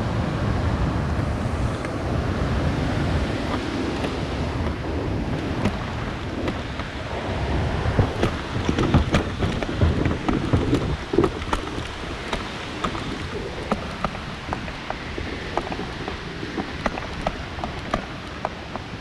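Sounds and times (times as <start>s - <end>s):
wind rumbling on microphone: 0.0s - 19.0s
water splashing and sloshing: 0.8s - 19.0s.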